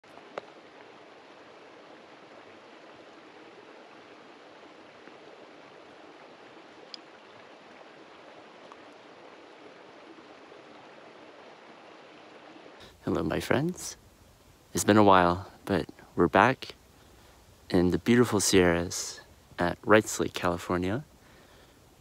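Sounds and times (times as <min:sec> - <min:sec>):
running water hiss: 0:00.0 - 0:22.0.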